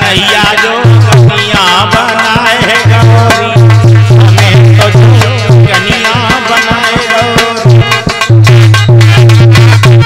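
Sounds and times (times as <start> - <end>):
hand drum beat: 0.0 - 10.0
harmonium: 0.0 - 10.0
man singing: 0.0 - 10.0.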